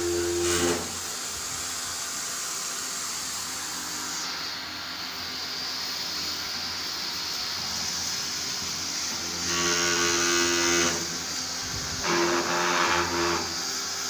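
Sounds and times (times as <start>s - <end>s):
pressure washer motor humming: 0.0s - 14.0s.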